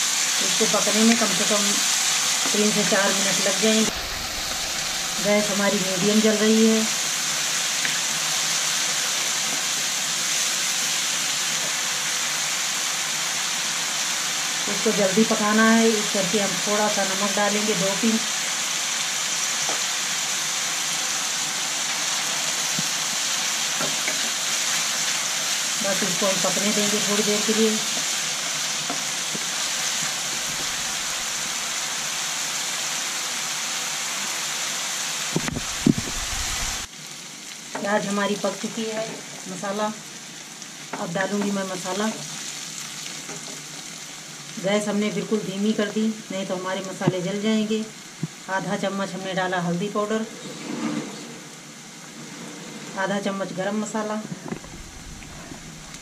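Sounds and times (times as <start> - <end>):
onions sizzling in oil: 0.0 - 56.0.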